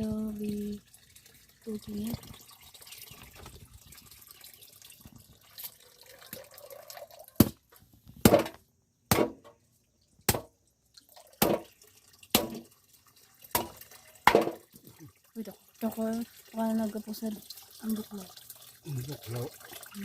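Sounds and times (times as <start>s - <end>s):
faint running water: 0.0s - 7.8s, 9.6s - 20.0s.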